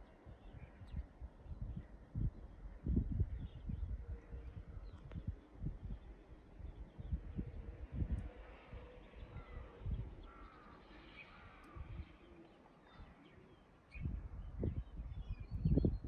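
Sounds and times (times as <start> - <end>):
wind gusts on microphone: 0.2 - 10.5, 11.4 - 12.2, 13.9 - 16.0.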